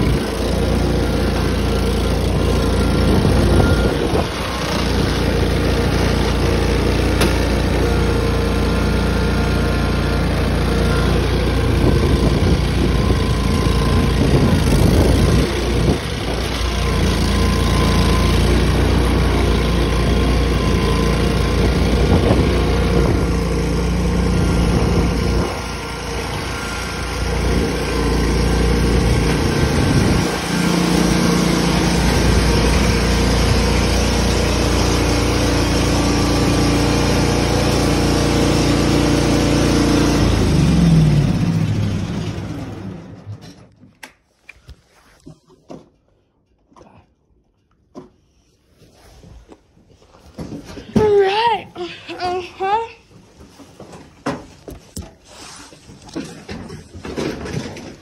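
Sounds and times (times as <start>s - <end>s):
tractor engine running: 0.0s - 44.0s, 53.1s - 58.0s.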